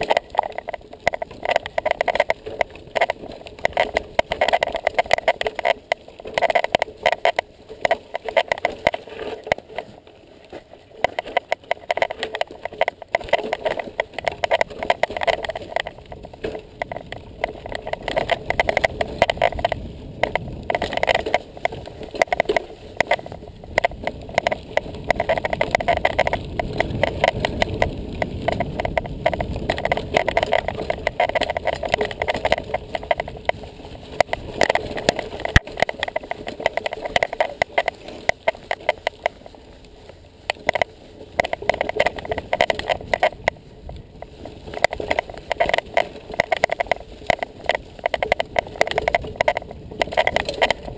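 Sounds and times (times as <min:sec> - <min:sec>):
bike rattling over rough trail: 0:00.0 - 0:50.9
tyre noise on dirt: 0:00.0 - 0:50.9.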